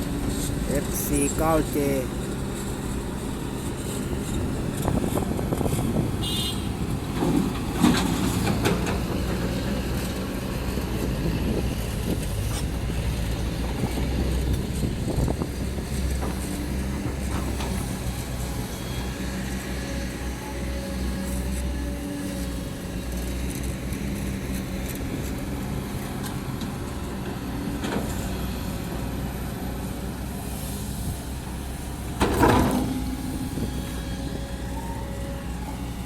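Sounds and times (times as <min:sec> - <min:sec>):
diesel machinery humming: 0:00.0 - 0:36.0.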